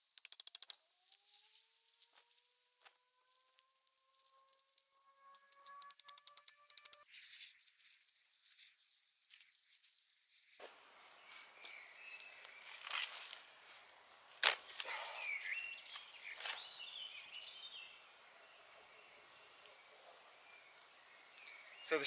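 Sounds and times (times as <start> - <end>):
insect chirping trill: 0.0 - 9.5, 10.2 - 22.0.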